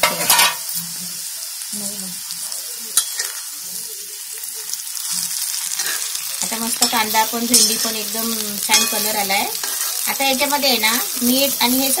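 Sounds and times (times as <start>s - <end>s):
vegetables sizzling in a pan: 0.0s - 12.0s
spatula stirring in a pan: 2.2s - 12.0s.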